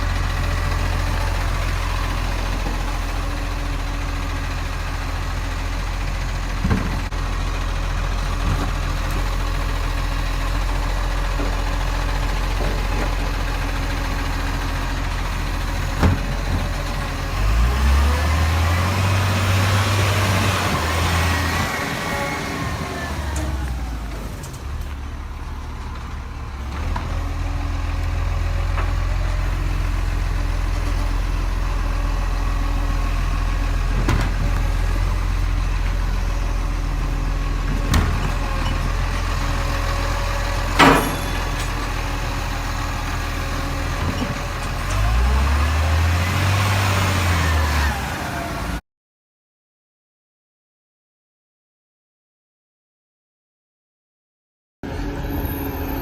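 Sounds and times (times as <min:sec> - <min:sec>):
diesel engine idling: 0:00.0 - 0:48.8.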